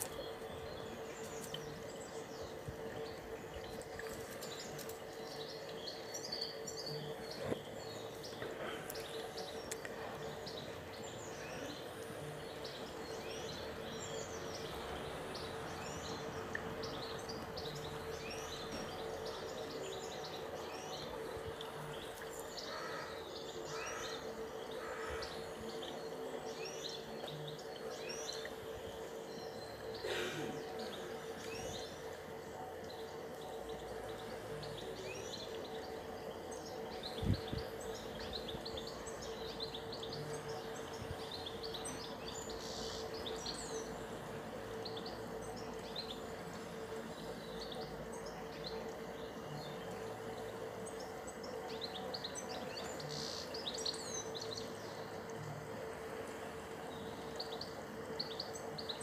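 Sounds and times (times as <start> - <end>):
faint steady hum: 0.0 - 59.0
small birds chirping: 0.0 - 59.0.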